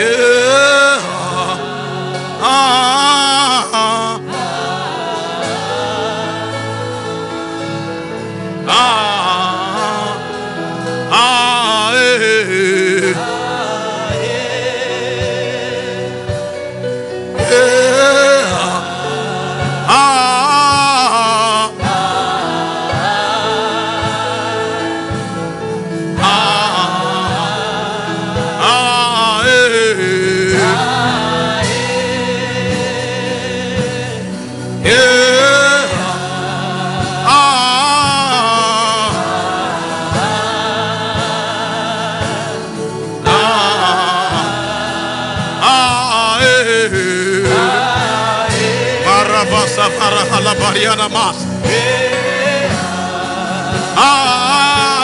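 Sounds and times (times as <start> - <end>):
gospel singing: 0.0 - 55.0
sustained accompaniment: 0.0 - 55.0.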